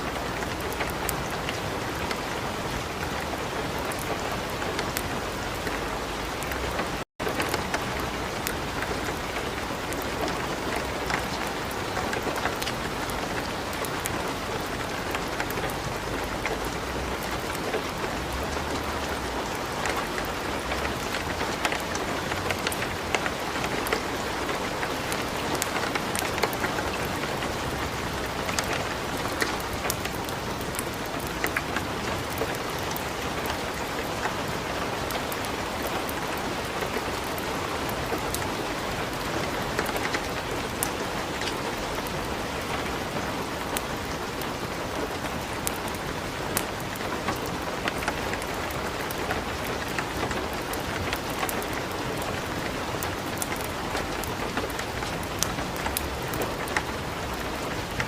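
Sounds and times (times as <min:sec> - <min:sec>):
light rain: 0:00.0 - 0:58.0
wood fire crackling: 0:00.4 - 0:58.0.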